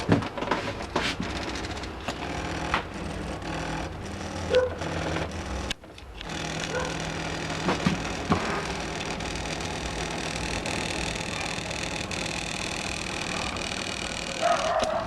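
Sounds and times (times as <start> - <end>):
stepper motors humming and clicking: 0.0 - 15.0.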